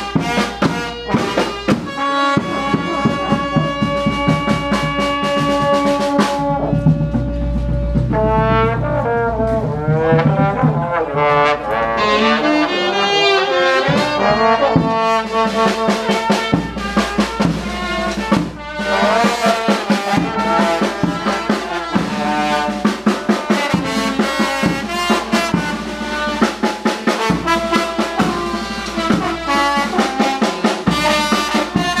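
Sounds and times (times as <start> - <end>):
steady drum beat: 0.0 - 12.7, 13.4 - 32.0
brass horns playing: 0.0 - 32.0.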